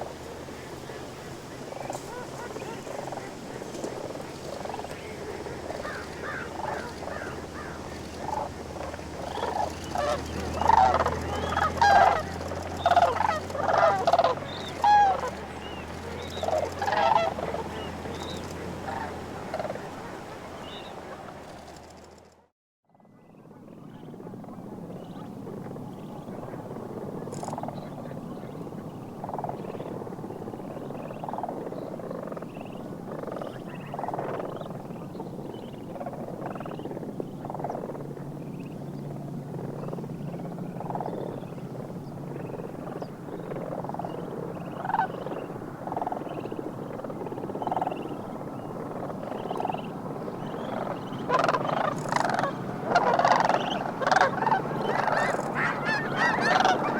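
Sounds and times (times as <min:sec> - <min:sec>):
geese and cranes calling: 0:00.0 - 0:21.8, 0:25.0 - 0:56.9.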